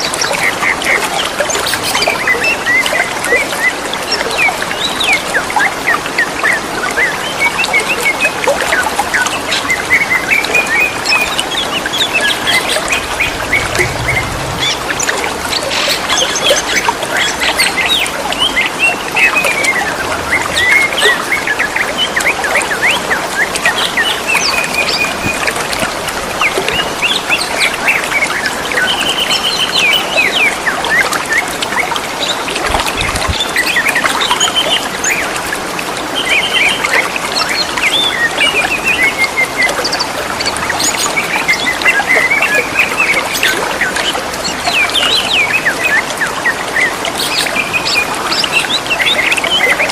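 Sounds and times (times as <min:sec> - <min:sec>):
birds chirping and trilling: 0:00.0 - 0:35.4, 0:36.2 - 0:49.9
trickling water: 0:00.0 - 0:49.9.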